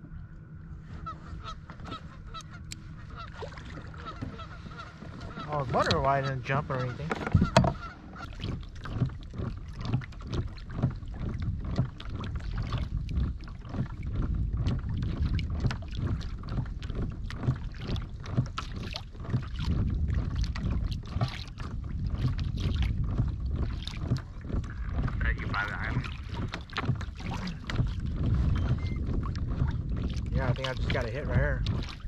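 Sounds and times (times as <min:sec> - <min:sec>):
wind buffeting microphone: 0:00.0 - 0:32.0
water splashing against boat hull: 0:00.8 - 0:32.0.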